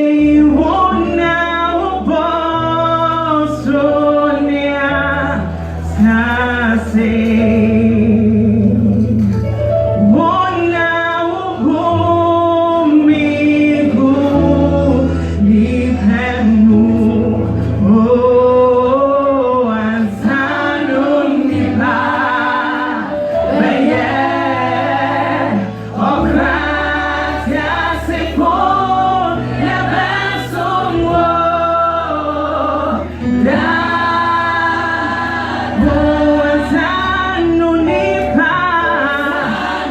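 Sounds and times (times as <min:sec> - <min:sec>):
choir singing gospel: 0:00.0 - 0:09.2, 0:10.0 - 0:39.9.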